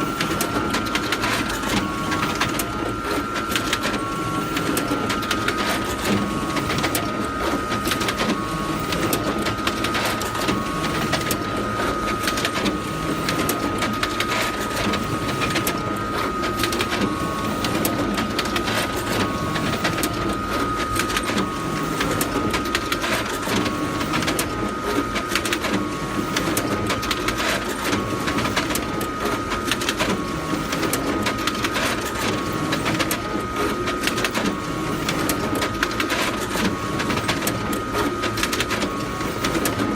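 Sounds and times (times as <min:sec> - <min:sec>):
photocopier whirring and clicking: 0:00.0 - 0:39.9.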